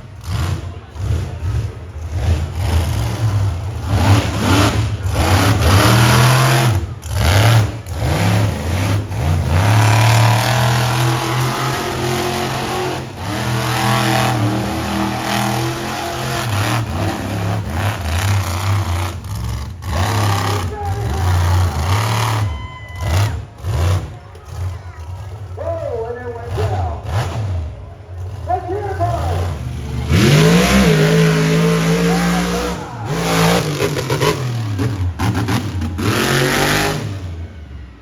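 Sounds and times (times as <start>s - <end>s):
truck engine revving hard: 0.0s - 38.0s.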